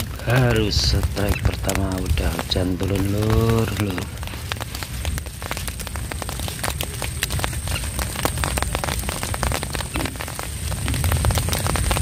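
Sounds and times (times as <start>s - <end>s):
low rumble: 0.0s - 12.0s
rain pattering on water: 0.0s - 12.0s.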